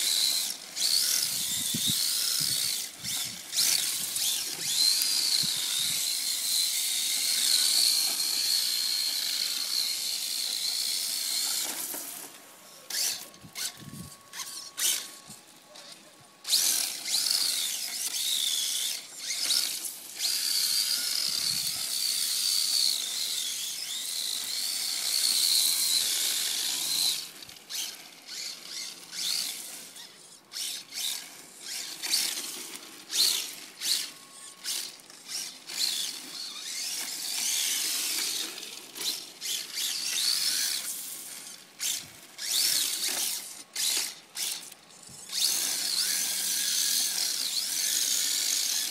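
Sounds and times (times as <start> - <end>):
electric motor whining: 0.0 - 48.9.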